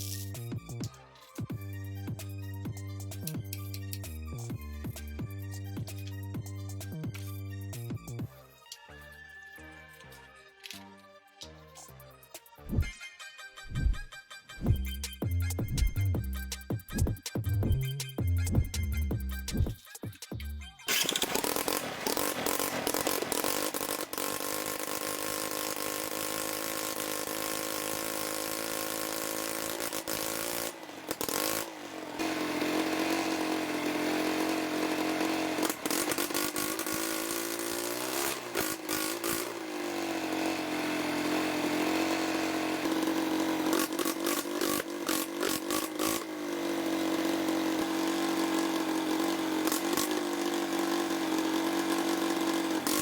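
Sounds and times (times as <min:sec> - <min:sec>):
motorcycle engine running and revving: 0:00.0 - 0:08.5, 0:14.7 - 0:19.8, 0:20.9 - 0:53.0.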